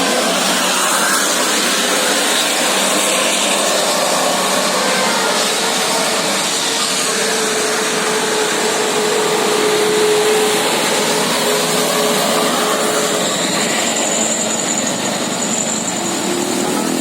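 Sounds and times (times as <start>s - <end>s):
bus engine running: 0.0s - 17.0s
traffic close by: 0.0s - 17.0s.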